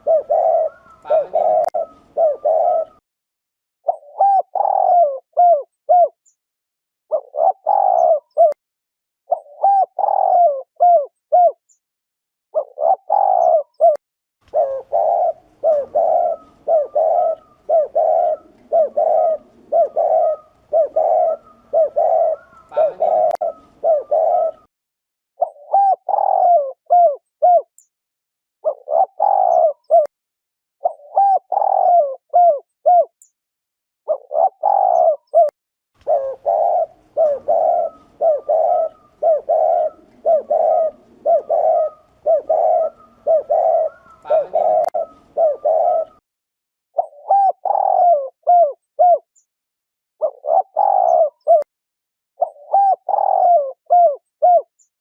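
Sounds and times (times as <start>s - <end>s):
dove cooing: 0.0s - 3.0s, 3.9s - 6.2s, 7.1s - 8.6s, 9.3s - 11.6s, 12.6s - 24.7s, 25.4s - 27.7s, 28.6s - 30.1s, 30.8s - 33.1s, 34.1s - 46.2s, 47.0s - 49.3s, 50.2s - 51.7s, 52.4s - 54.7s.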